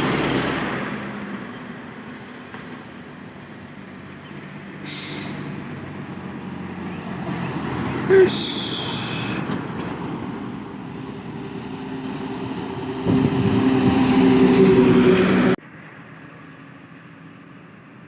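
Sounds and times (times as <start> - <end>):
truck engine straining: 0.0 - 15.6.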